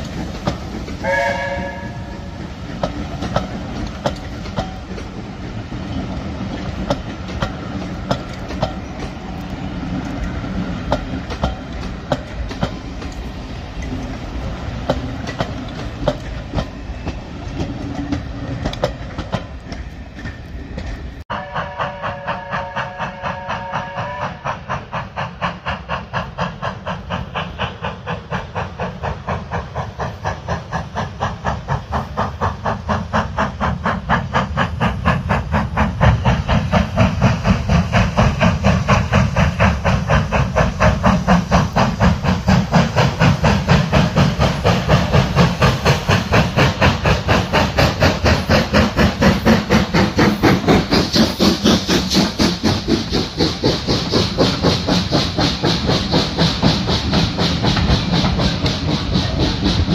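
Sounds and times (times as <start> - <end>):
loud hiss of steam: 0.0 - 59.9
steam locomotive exhaust beats: 0.0 - 59.9.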